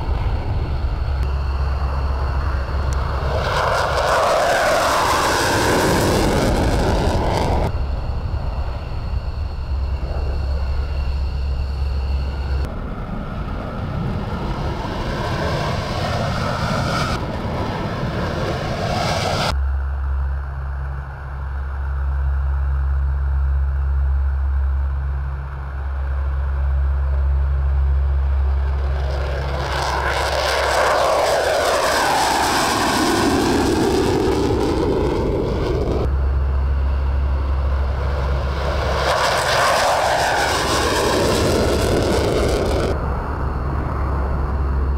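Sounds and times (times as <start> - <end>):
aircraft passing by: 0.0 - 44.9
jet aircraft engine noise: 0.0 - 44.9
low rumble: 0.0 - 44.9.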